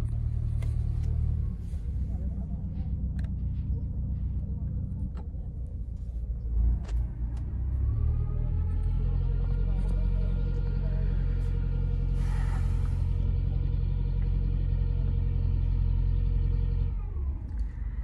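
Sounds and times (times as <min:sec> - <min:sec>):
low engine drone in car: 0:00.0 - 0:18.0.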